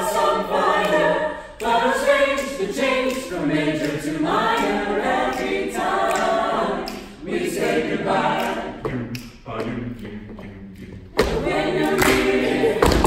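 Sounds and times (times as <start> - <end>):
a cappella group singing in harmony: 0.0 - 13.0.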